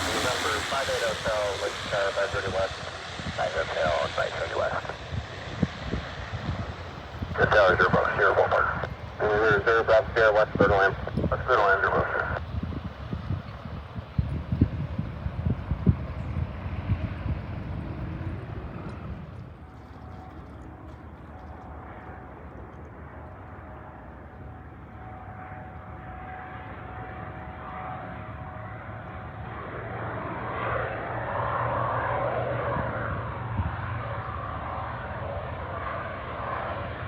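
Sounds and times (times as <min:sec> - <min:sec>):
propeller plane engine: 0:00.0 - 0:37.0.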